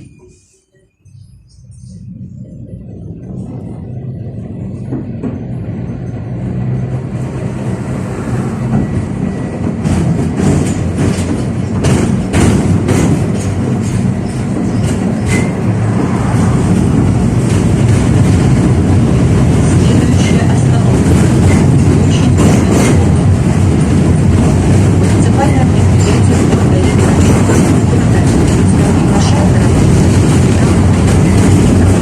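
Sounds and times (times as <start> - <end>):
tram pulling away: 0.0 - 32.0
tram wheels clicking on track: 1.7 - 32.0.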